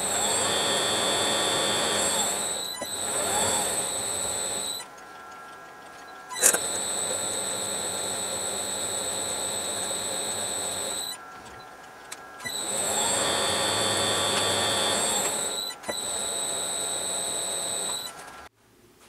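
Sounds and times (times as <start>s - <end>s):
lathe whine: 0.0s - 18.5s.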